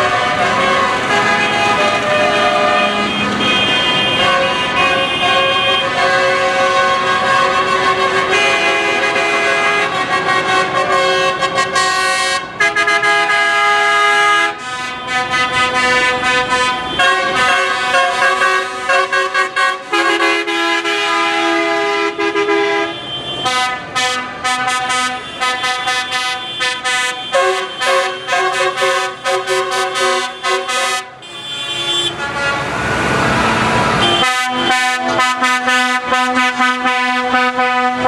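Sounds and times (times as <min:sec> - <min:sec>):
vehicle horns sounding: 0:00.0 - 0:32.8, 0:33.9 - 0:38.0.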